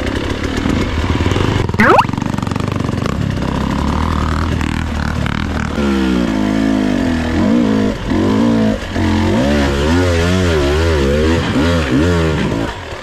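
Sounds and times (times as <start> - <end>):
dirt bike engine revving: 2.1 - 13.0.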